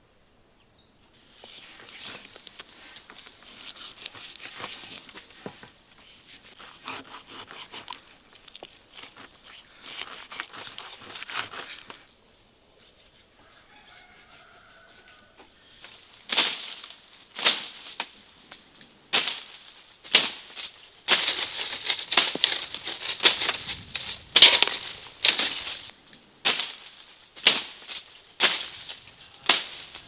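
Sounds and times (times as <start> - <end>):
tree branches rustling: 1.0 - 30.0.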